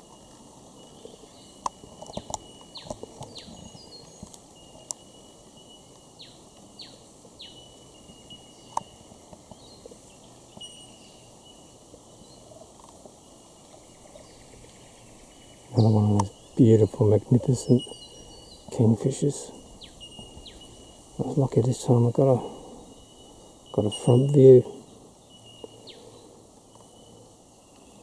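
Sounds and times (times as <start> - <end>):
faint steady high tone: 0.0 - 28.0.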